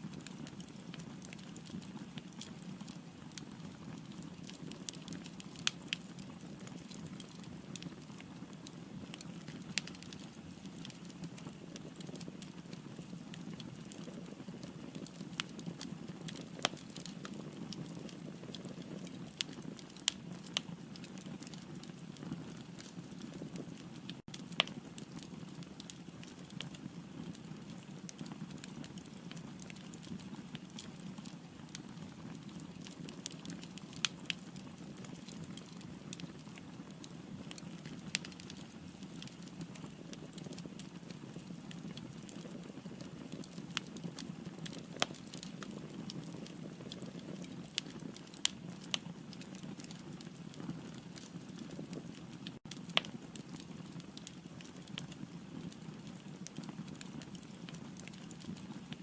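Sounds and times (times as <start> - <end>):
firewood crackling: 0.0 - 59.0.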